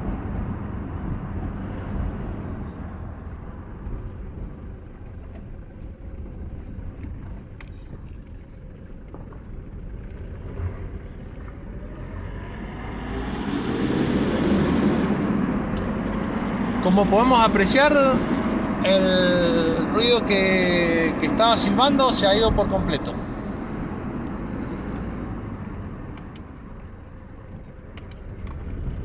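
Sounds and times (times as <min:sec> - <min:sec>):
diesel engine accelerating: 0:00.0 - 0:05.6, 0:09.9 - 0:29.0
road noise: 0:00.0 - 0:29.0.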